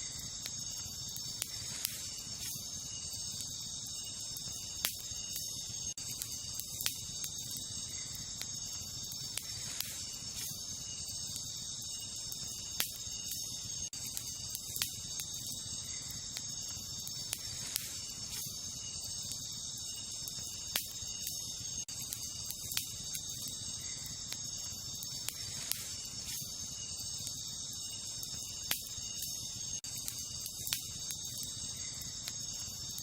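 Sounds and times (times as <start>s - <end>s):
crickets chirping: 0.0s - 33.0s
wood fire crackling and popping: 0.1s - 33.0s.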